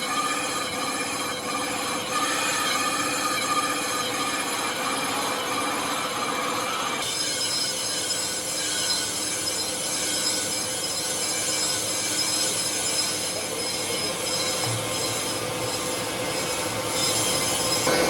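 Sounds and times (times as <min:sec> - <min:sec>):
metal machinery screeching and grinding: 0:00.0 - 0:18.0.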